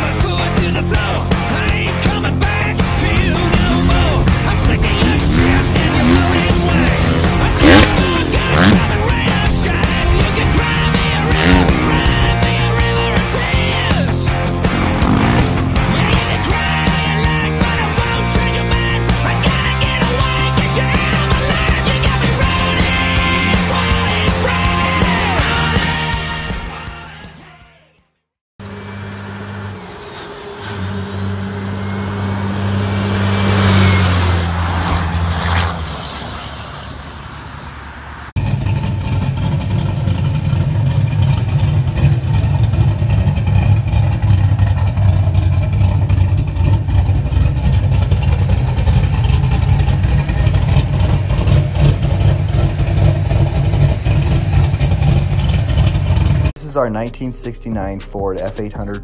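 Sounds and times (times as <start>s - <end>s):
pickup engine low pulsing rumble: 0.0s - 26.5s, 28.6s - 59.0s
truck engine passing: 0.0s - 27.4s, 28.6s - 59.0s.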